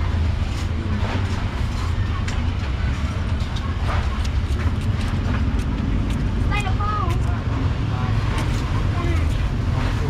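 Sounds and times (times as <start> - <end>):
low rumble of street traffic: 0.0 - 10.0.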